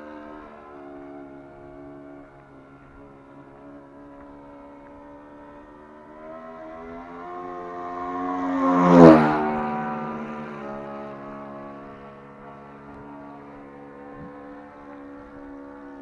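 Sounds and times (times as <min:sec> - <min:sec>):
model plane engine passing by: 0:00.0 - 0:16.0.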